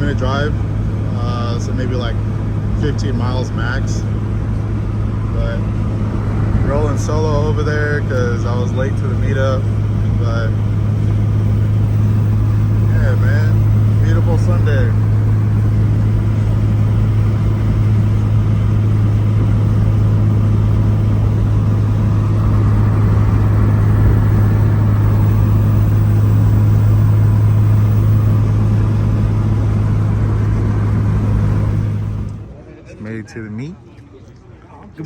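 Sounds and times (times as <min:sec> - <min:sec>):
car engine and road noise: 0:00.0 - 0:32.6.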